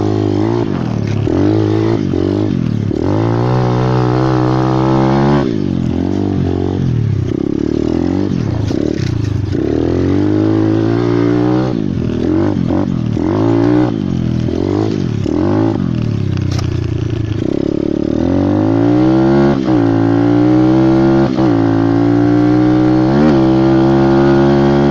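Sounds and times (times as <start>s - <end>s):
motorbike engine revving: 0.0s - 24.9s.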